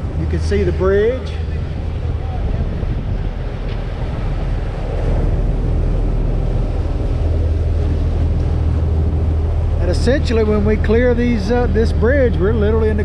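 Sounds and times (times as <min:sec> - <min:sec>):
boat engines droning: 0:00.0 - 0:13.0
wind buffeting microphone: 0:00.0 - 0:13.0.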